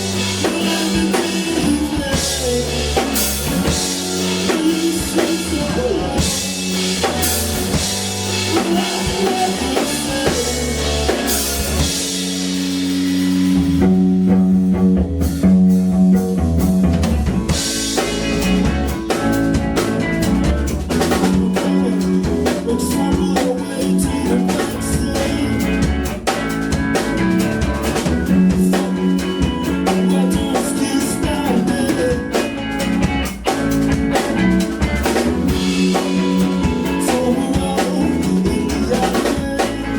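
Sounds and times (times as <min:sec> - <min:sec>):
drum kit beat: 0:00.0 - 0:39.9
live band music: 0:00.0 - 0:39.9.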